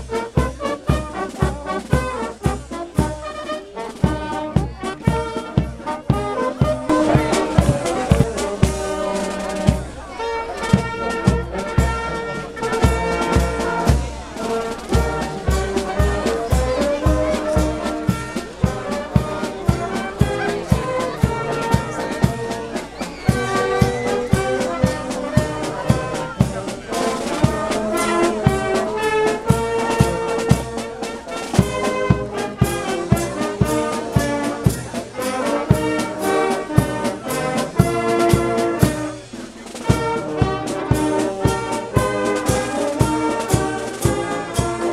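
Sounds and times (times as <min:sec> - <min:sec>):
brass band playing: 0:00.0 - 0:44.9
steady drum beat: 0:00.0 - 0:44.9.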